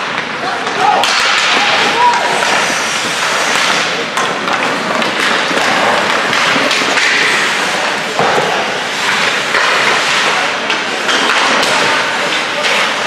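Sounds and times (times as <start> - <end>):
hockey sticks knocking puck: 0.0 - 13.0
skates scraping on ice: 0.1 - 13.0.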